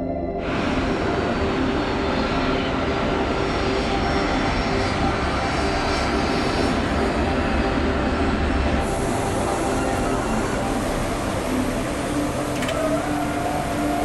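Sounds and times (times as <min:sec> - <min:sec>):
jet aircraft engine: 0:00.2 - 0:14.0.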